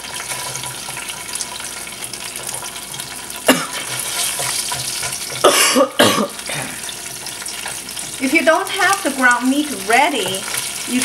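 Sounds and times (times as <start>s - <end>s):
spatula and spoon stirring: 0.0s - 5.5s, 6.4s - 11.0s
bean paste sizzling in hot oil: 0.0s - 11.0s.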